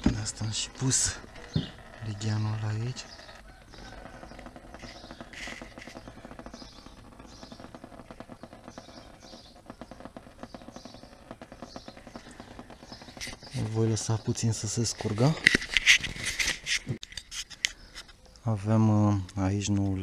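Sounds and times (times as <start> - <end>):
bird chirping: 0.0 - 16.4, 17.5 - 19.5.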